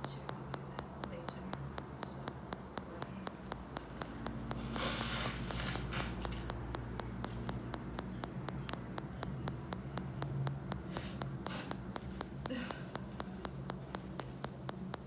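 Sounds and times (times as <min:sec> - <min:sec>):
fast steady ticking: 0:00.0 - 0:15.0.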